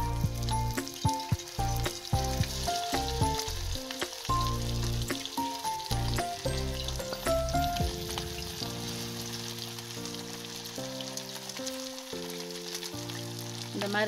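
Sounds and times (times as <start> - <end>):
background music of held notes: 0.0 - 14.0
fish sizzling in oil: 0.0 - 14.0.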